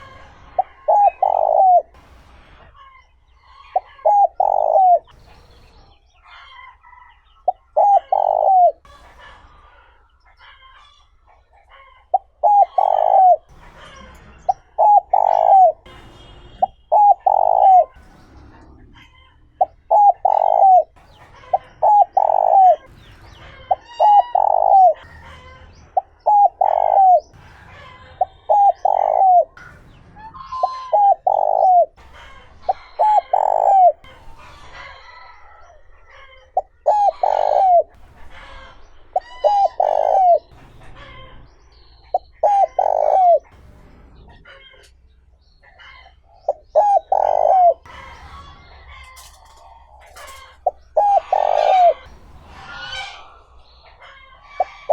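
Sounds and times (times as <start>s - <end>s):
dove cooing: 0.0s - 41.4s, 42.0s - 43.6s, 45.7s - 54.9s
small birds chirping: 0.0s - 54.9s.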